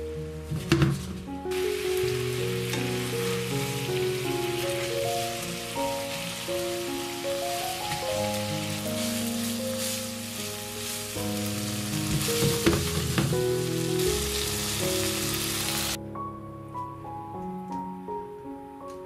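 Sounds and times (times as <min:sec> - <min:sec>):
background music: 0:00.0 - 0:19.0
chicken sizzling in pan: 0:00.6 - 0:16.0.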